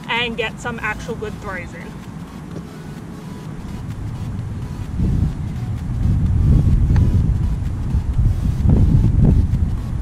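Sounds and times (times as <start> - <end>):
wind rumbling on microphone: 1.1 - 10.0.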